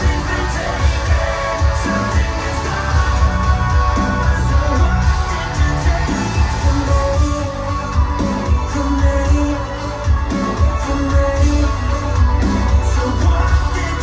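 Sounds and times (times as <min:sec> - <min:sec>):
pop song over speakers: 0:00.0 - 0:14.0.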